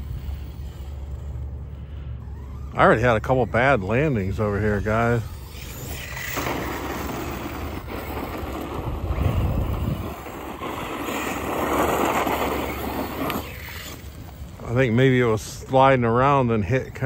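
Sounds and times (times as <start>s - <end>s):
rc truck motor whirring: 0.0s - 17.0s
tyres scrubbing pavement: 2.8s - 17.0s.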